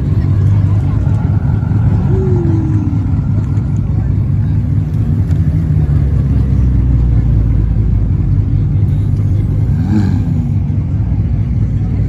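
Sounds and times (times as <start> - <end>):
sports car engine idling: 0.0 - 12.0.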